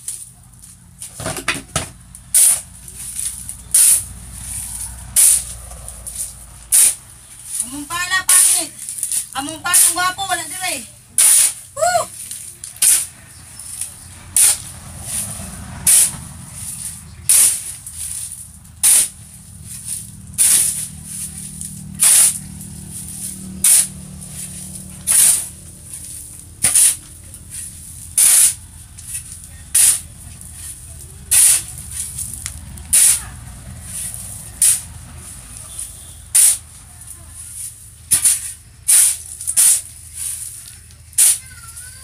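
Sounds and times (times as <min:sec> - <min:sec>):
shovel scraping concrete: 0:01.0 - 0:42.0.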